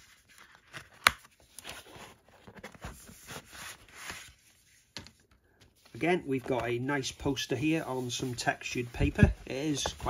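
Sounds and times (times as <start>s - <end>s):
paper prints rustling: 0.0s - 10.0s.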